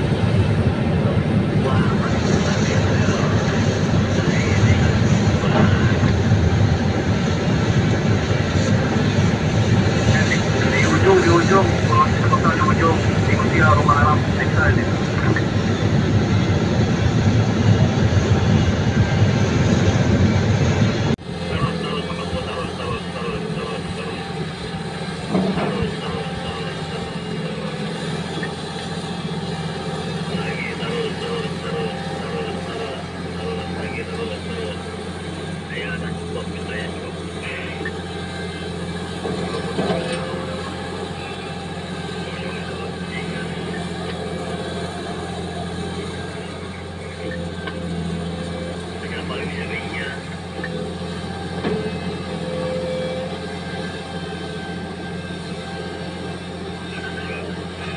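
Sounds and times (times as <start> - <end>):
excavator diesel engine under load: 0.0 - 57.9.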